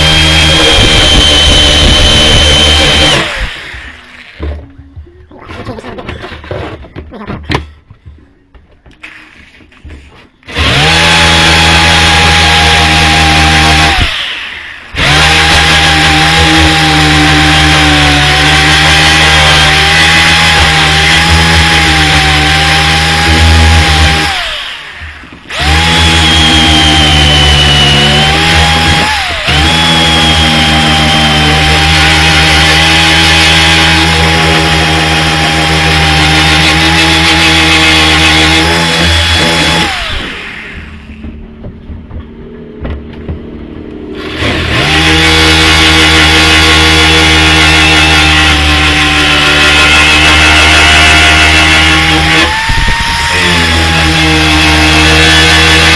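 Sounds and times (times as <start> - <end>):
electric grinder whining: 0.0 - 4.5, 10.4 - 41.7, 44.0 - 55.9.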